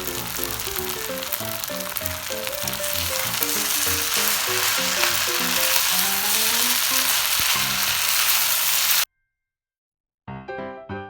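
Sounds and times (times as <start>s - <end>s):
rice sizzling in a hot pan: 0.0s - 9.1s.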